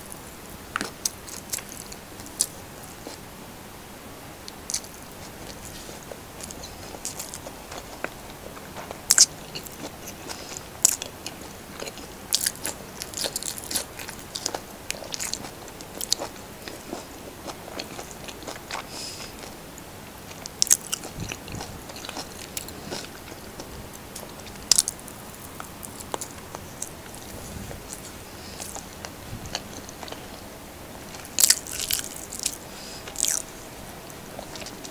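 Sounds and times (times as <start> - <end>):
person chewing and biting food: 4.5 - 19.6, 20.3 - 30.4, 31.0 - 33.5, 34.4 - 34.9.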